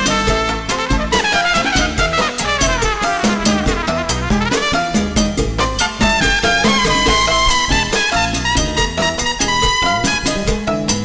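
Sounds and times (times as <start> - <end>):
salsa band drums and bass: 0.0 - 11.0
trumpet solo: 0.0 - 11.0.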